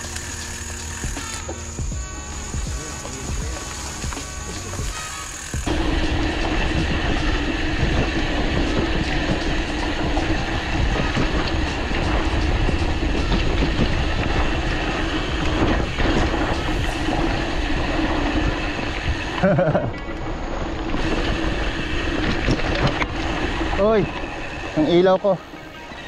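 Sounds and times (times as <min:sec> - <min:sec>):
steady hum: 0:00.0 - 0:25.9
mountain bike rattling on dirt trail: 0:00.0 - 0:26.0.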